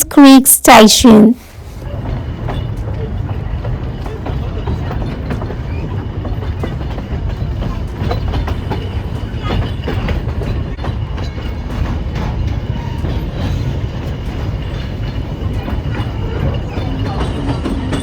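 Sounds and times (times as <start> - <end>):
train carriages rumbling: 0.0 - 18.0
wheels clattering over rails: 1.8 - 18.0.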